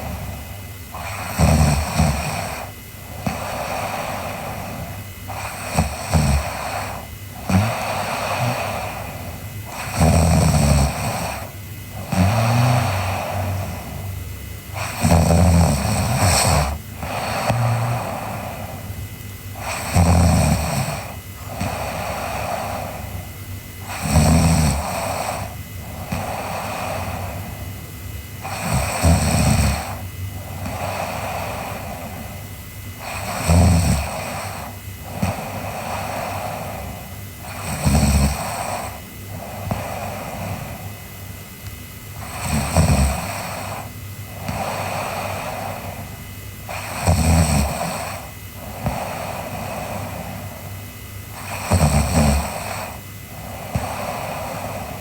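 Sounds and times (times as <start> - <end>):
girl snoring: 0.0 - 27.8, 28.4 - 41.1, 42.1 - 55.0.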